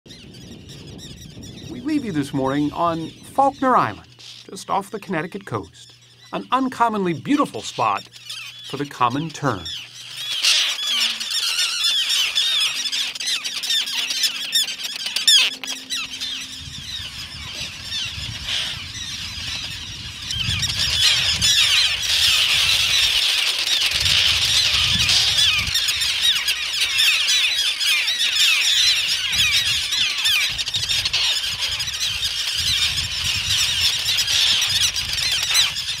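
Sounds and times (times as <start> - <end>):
terns calling: 0.1 - 36.0.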